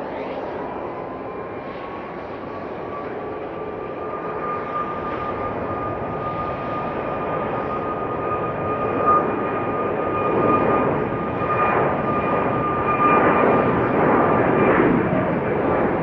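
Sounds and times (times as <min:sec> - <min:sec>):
jet engine whine: 0:00.0 - 0:16.0
jet engines roaring: 0:00.0 - 0:16.0.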